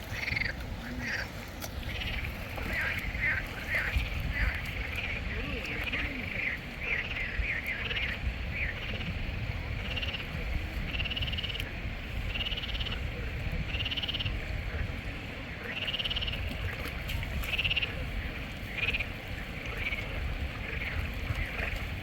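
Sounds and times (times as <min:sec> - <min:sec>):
frogs croaking: 0:00.0 - 0:22.0.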